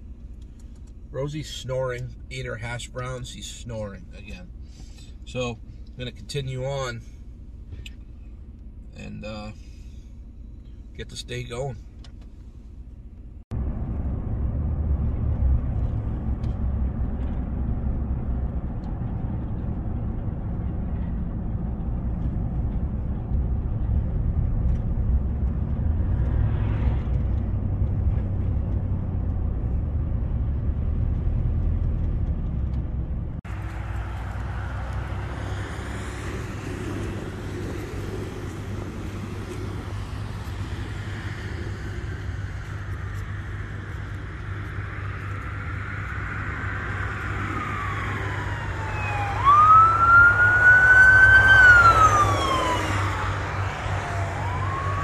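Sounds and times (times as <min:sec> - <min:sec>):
engine and tyres rumbling in cab: 0:00.0 - 0:55.0
road traffic going by: 0:00.0 - 0:55.0.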